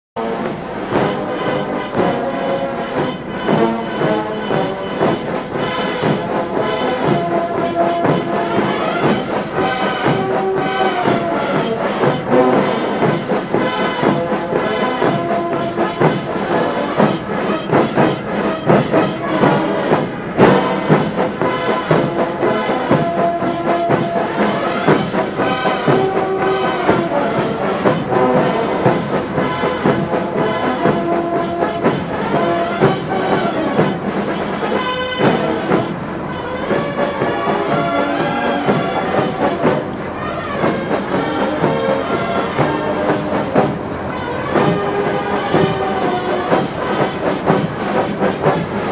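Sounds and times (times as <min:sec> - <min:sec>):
brass band playing: 0:00.2 - 0:48.9.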